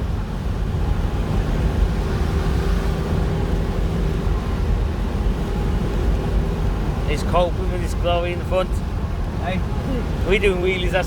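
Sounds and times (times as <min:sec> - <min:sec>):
engine and road rumble: 0:00.0 - 0:11.0
wind and rain: 0:00.0 - 0:11.0.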